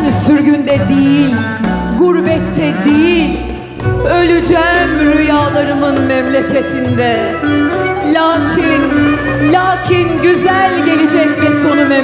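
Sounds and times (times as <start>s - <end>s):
instrumental accompaniment: 0.0s - 12.0s
woman singing into a microphone: 0.0s - 12.0s.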